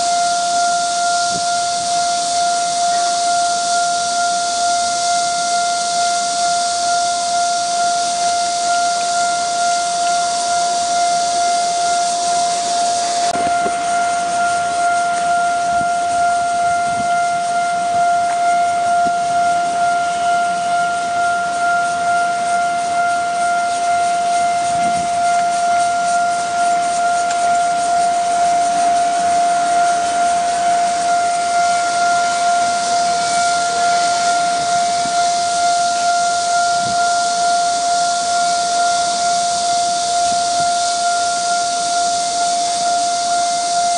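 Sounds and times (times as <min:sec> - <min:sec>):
level crossing warning bell: 0:00.0 - 0:43.9.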